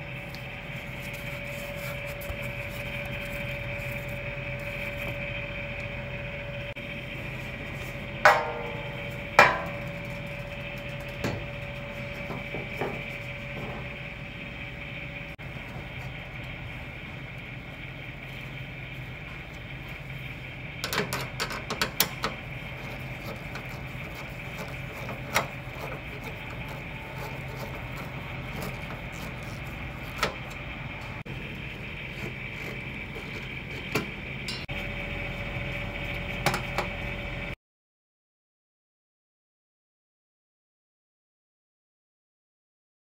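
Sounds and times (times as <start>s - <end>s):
machine hum: 0.0s - 37.6s.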